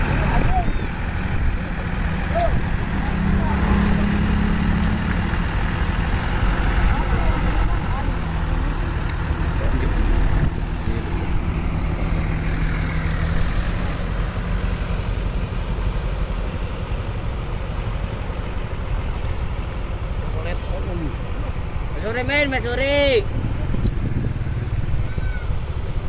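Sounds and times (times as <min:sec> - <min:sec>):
bus engine pulling away: 0:00.0 - 0:26.0.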